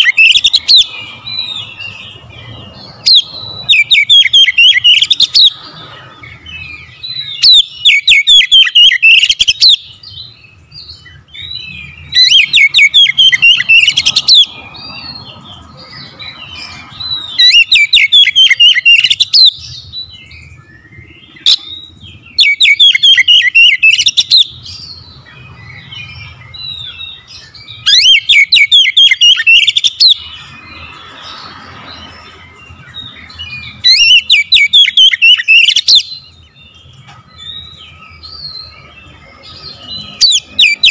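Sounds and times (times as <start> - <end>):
bird singing rapid phrases: 0.0 - 40.9
soft bird twittering: 0.0 - 40.9.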